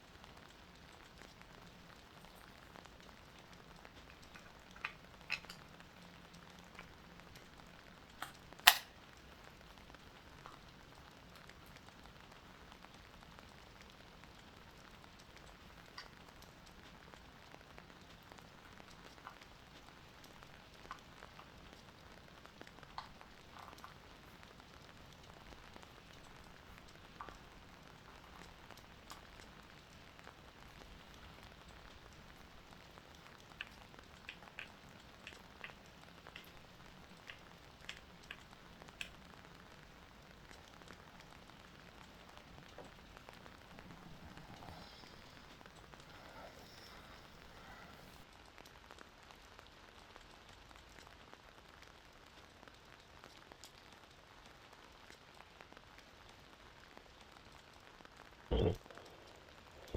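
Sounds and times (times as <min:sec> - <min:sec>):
faint hiss: 0:00.0 - 0:48.3
small ticks and clicks: 0:00.0 - 0:48.7.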